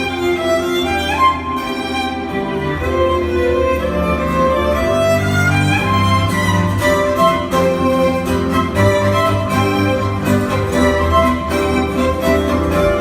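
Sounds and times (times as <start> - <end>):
low backing accompaniment: 0.0 - 13.0
solo violin melody: 0.0 - 13.0.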